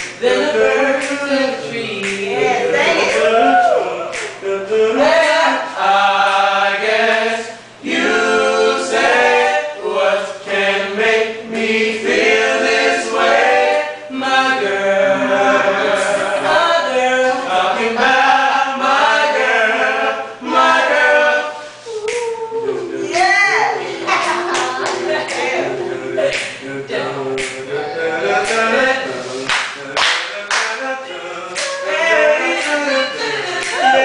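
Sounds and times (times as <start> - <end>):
male voices singing a cappella: 0.0 - 34.0.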